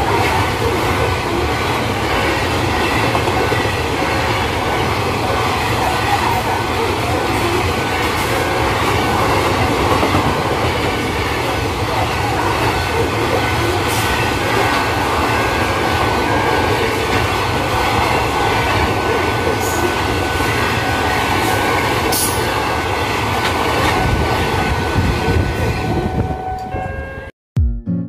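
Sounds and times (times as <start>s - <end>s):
train wheels on rail: 0.0s - 26.8s.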